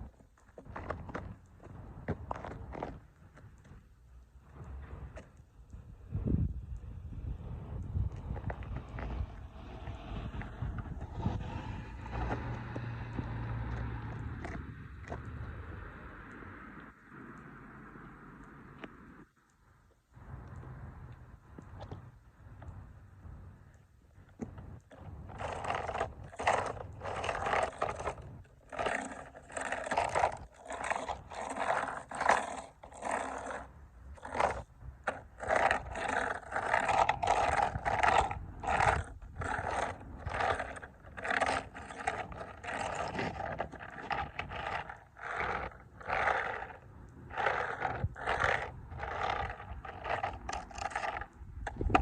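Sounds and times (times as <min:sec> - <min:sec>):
boots crunching toy cars: 0:00.0 - 0:06.0, 0:07.3 - 0:16.9, 0:20.3 - 0:52.0.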